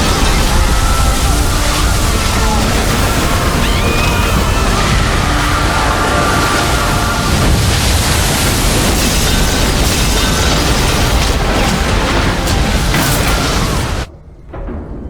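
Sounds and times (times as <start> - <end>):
glass crashing: 0.0 - 14.1
water rushing: 0.0 - 14.1
deep rumble: 0.0 - 15.0.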